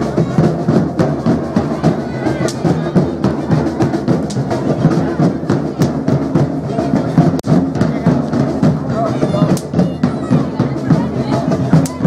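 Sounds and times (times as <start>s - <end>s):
samba drum group: 0.0s - 12.0s.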